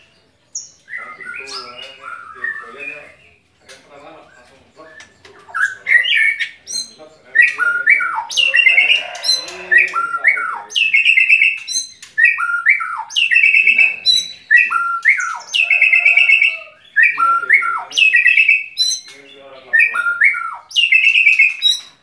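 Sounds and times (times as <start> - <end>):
bird singing whistled notes: 0.0 - 3.4, 4.8 - 22.0.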